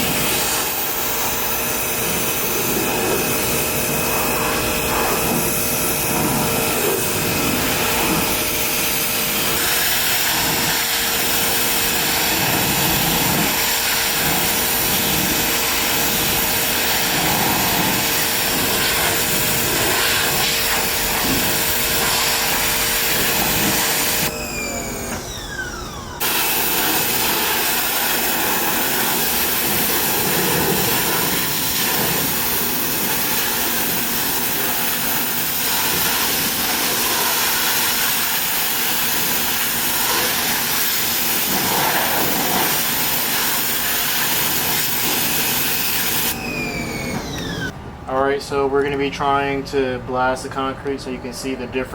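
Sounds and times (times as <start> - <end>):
pressure washer water spray: 0.0 - 47.7
pressure washer motor whine: 0.0 - 49.6.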